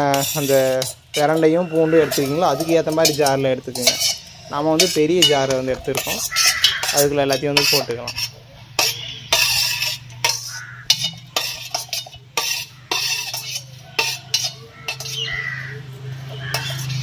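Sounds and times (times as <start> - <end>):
steel spoon clinking and scraping: 0.0 - 17.0.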